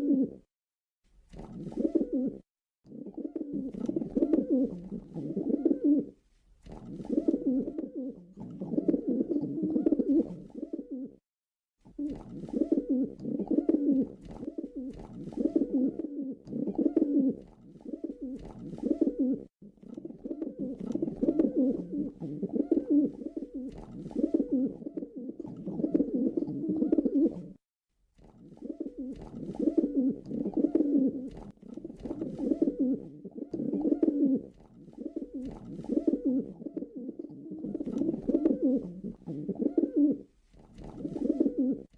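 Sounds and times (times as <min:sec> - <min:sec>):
pigeon cooing: 0:00.0 - 0:00.5, 0:01.4 - 0:11.2, 0:11.9 - 0:27.6, 0:28.2 - 0:41.9.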